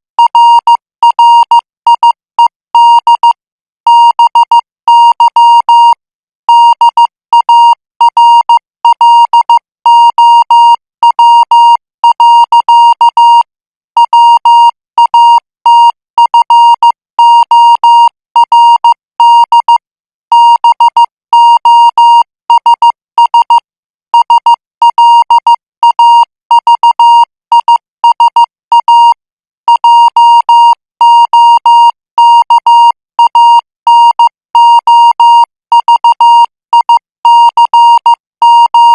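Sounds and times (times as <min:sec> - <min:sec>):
morse code tone: 0:00.2 - 0:38.9.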